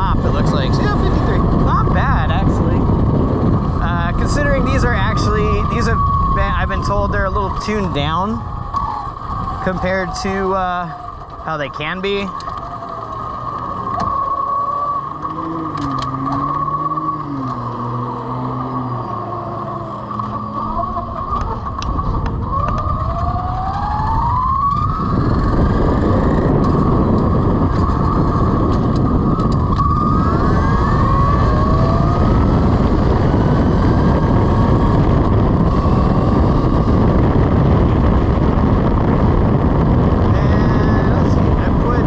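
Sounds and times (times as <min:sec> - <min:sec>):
electric motorcycle motor whine: 0:00.0 - 0:42.0
wind noise on microphone: 0:00.0 - 0:42.0.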